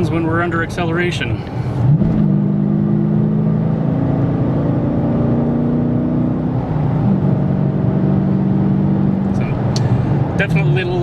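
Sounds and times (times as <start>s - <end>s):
car engine accelerating: 1.5s - 11.0s.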